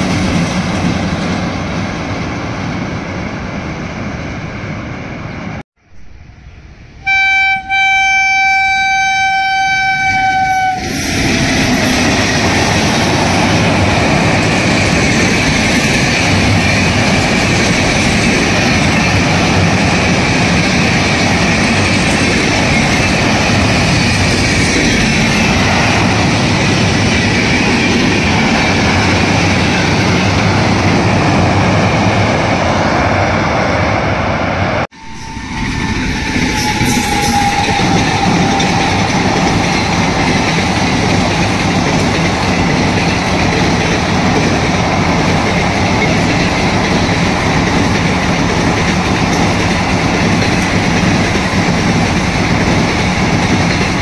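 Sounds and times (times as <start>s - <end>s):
train wheels rumbling on rails: 0.0s - 7.8s, 8.6s - 54.0s.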